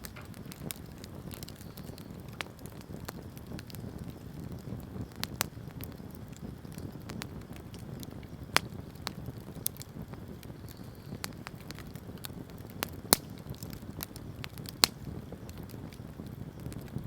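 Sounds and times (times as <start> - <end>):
low rumble of flame: 0.0 - 17.0
wood crackles and pops: 0.0 - 17.0.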